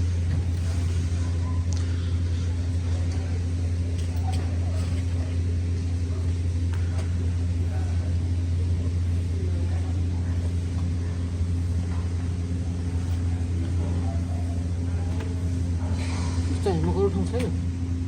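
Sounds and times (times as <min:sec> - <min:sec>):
faint voices: 0:00.2 - 0:18.0.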